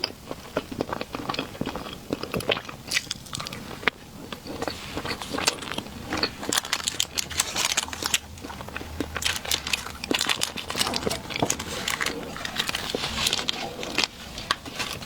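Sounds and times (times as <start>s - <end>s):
wet chewing and mouth sounds: 0.0s - 15.0s.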